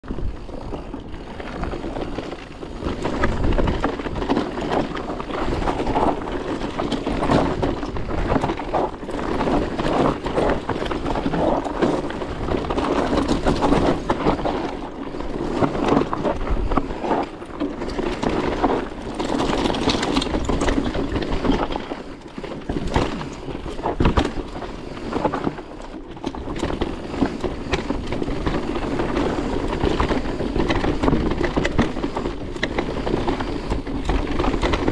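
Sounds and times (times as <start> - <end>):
bike rattling over bumps: 0.0 - 34.9.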